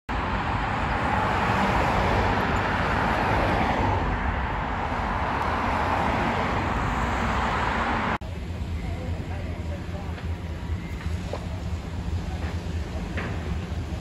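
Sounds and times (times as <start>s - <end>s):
cars on busy road: 0.1s - 14.0s.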